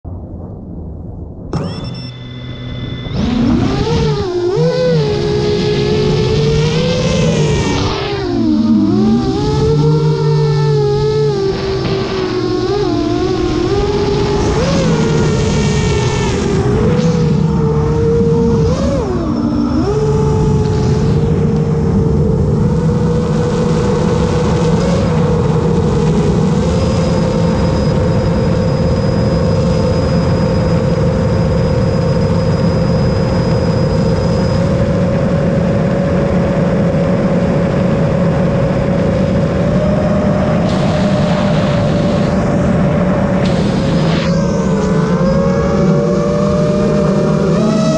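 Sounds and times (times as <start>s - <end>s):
drone motors and propellers whining: 1.4s - 47.9s.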